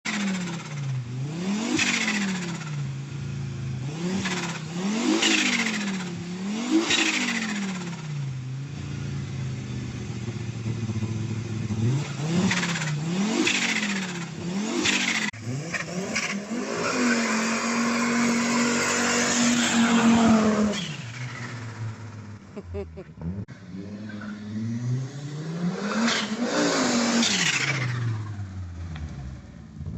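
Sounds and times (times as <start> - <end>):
turbo engine revving: 0.0 - 29.9.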